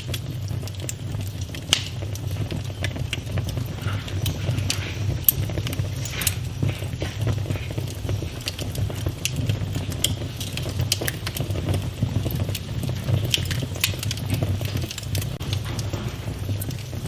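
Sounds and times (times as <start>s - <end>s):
fireplace fire crackling: 0.0s - 17.0s
low rumble: 1.1s - 17.0s.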